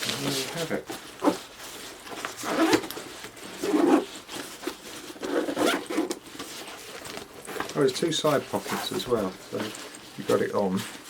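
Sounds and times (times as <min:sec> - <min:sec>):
fabric bag rustling and scraping: 0:00.0 - 0:11.0.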